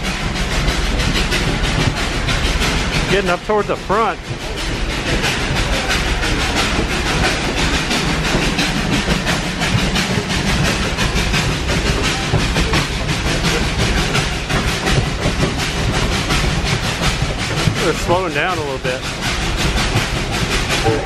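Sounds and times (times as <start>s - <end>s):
train car rumbling on track: 0.0s - 21.0s.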